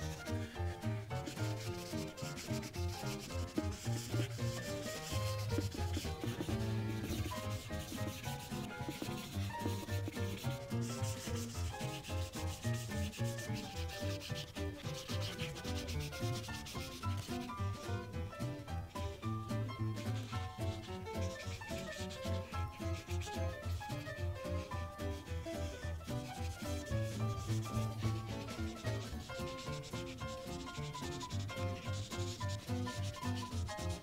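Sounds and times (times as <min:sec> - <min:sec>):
marker scratching on paper: 0:00.0 - 0:18.1, 0:18.8 - 0:34.0
soft background music: 0:00.0 - 0:34.0.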